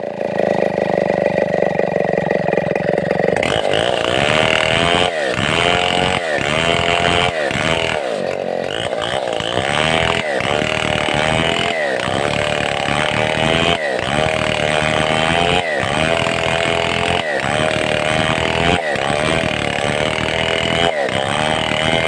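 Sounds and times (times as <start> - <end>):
chainsaw cutting log: 0.0 - 22.0.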